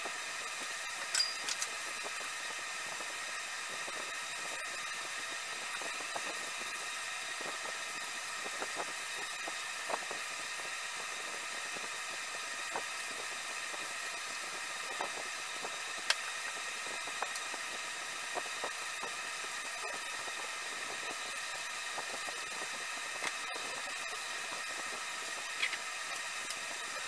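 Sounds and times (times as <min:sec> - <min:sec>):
background hum and hiss: 0:00.0 - 0:27.0.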